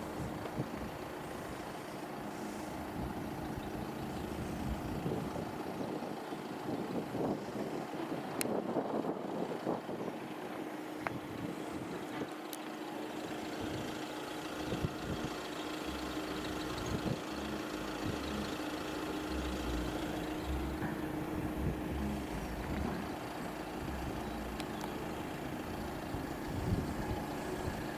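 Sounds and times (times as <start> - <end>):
wind rumble on microphone: 0.0 - 12.3, 14.6 - 18.6, 19.3 - 27.9
vehicle engine idling: 0.0 - 27.9.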